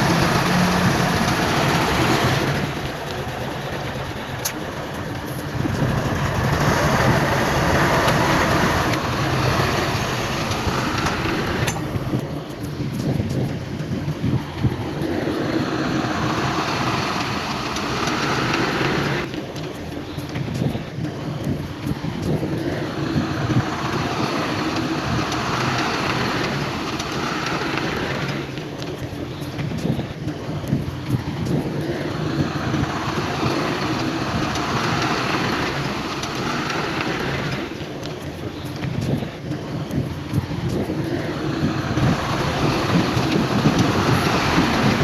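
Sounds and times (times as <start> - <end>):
broad rushing noise: 0.0 - 45.0
heavy diesel machinery rumbling: 0.0 - 45.0.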